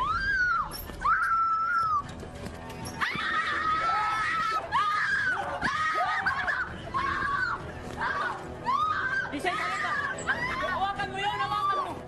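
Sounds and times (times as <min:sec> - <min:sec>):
people screaming: 0:00.0 - 0:02.1, 0:02.9 - 0:12.0
music: 0:00.0 - 0:12.0.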